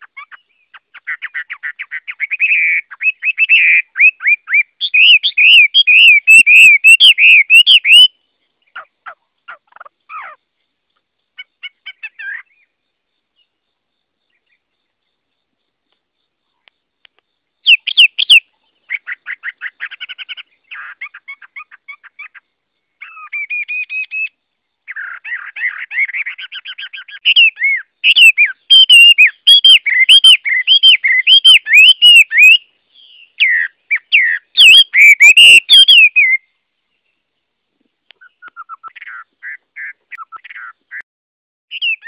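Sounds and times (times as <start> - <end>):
songbird singing trills and whistles: 0.0 - 10.4, 11.3 - 12.8, 17.6 - 37.3, 38.1 - 41.0, 41.7 - 42.0.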